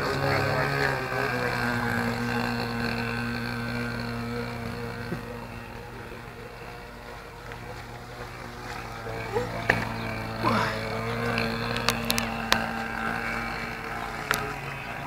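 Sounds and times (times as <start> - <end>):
model boat engine running: 0.0 - 15.0.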